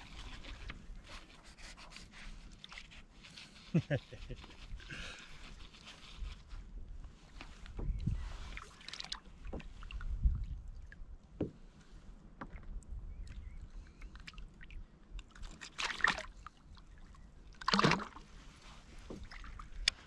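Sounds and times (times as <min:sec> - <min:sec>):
water lapping around kayak: 0:00.0 - 0:20.0.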